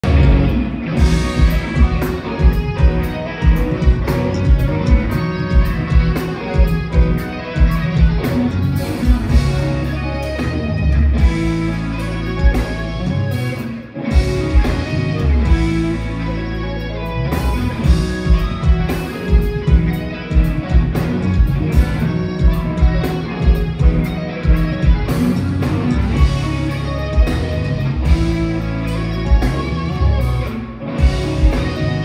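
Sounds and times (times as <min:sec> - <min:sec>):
bass guitar: 0:00.0 - 0:32.0
drum kit beat: 0:00.0 - 0:32.0
electric guitar lines: 0:00.0 - 0:32.0.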